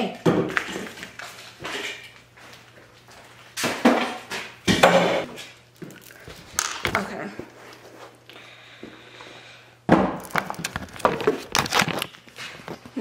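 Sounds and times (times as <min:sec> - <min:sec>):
items rustling and clattering: 0:00.2 - 0:08.3, 0:10.0 - 0:13.0.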